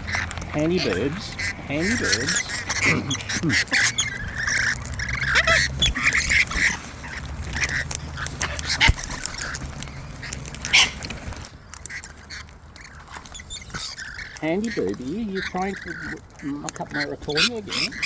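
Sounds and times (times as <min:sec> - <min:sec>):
parrots squawking and chattering: 0:00.0 - 0:18.0
sharp clicks: 0:00.0 - 0:18.0.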